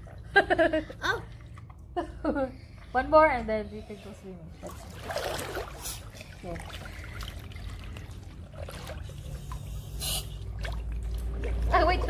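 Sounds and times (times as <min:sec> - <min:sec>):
pool water sloshing and splashing: 0:00.0 - 0:12.0.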